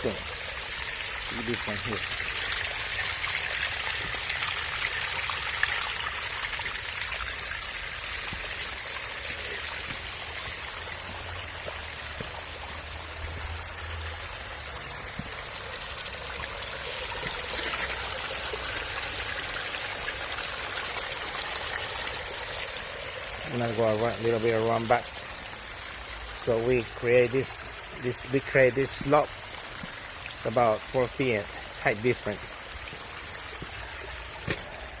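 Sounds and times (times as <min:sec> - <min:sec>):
water trickling and splashing: 0:00.0 - 0:35.0.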